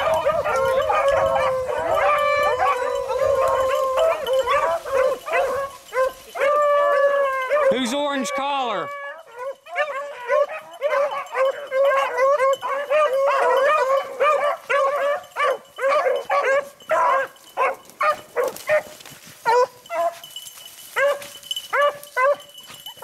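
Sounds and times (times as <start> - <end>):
beagles baying: 0.0 - 23.0.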